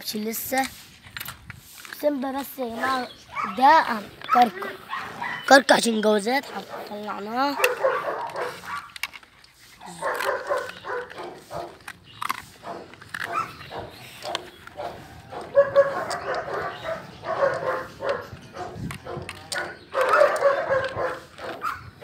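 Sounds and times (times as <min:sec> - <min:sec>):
dogs barking: 0:02.7 - 0:05.7, 0:06.3 - 0:09.2, 0:09.8 - 0:22.0.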